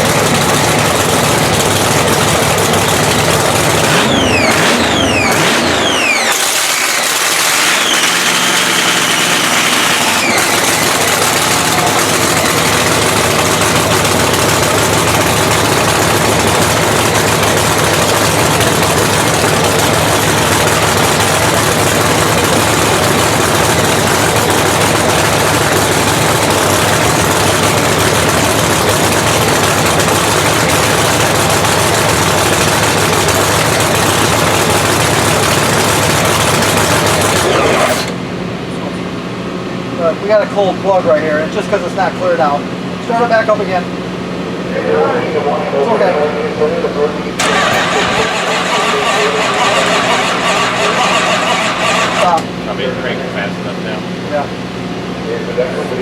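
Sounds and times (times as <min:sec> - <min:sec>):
drag racing engine idling: 0:00.0 - 0:56.0.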